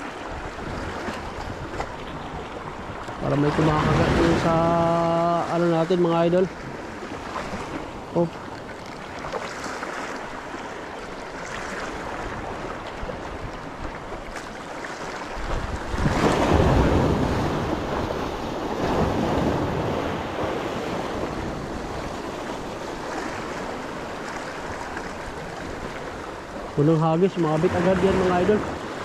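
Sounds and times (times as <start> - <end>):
sea waves washing against shore: 0.0 - 29.0
wind rumbling on microphone: 0.0 - 29.0.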